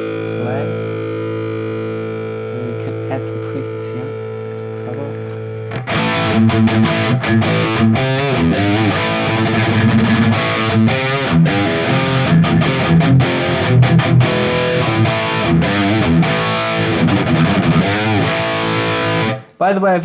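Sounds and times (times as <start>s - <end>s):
distorted electric guitar: 0.0s - 19.6s.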